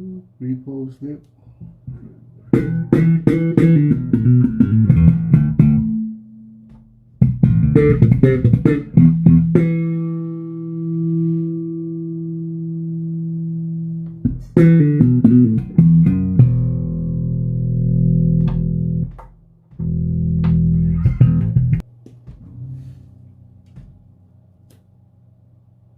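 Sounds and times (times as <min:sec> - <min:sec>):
bass guitar notes: 0:01.6 - 0:25.4.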